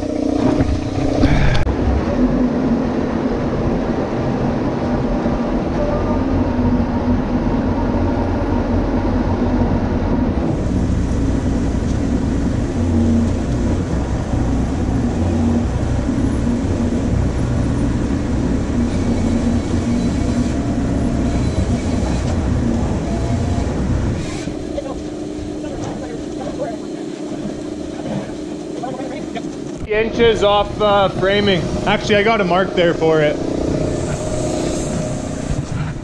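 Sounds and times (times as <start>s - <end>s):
heavy diesel engine under load: 0.0s - 36.0s.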